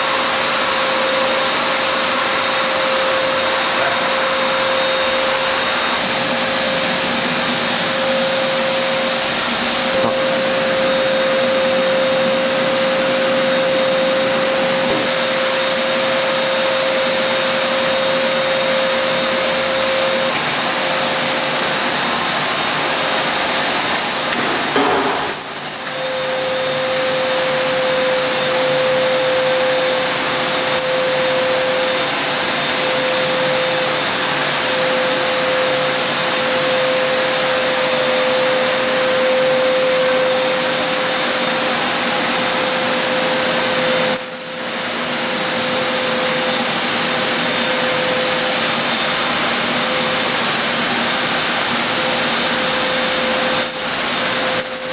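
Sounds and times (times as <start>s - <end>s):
welding machine rushing and humming: 0.0s - 54.9s.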